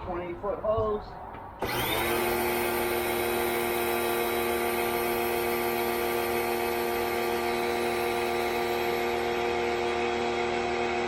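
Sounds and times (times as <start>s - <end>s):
pressure washer whining: 1.6s - 11.0s.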